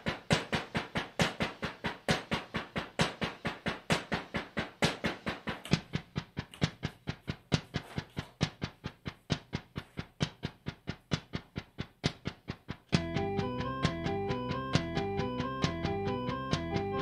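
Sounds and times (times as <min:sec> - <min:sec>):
looped electronic click rhythm: 0:00.0 - 0:17.0.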